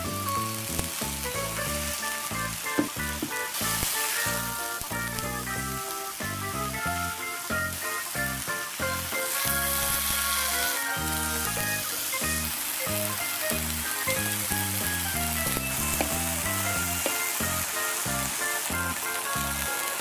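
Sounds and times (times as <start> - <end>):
background music: 0.0 - 20.0
mushrooms sizzling in oil: 0.0 - 20.0.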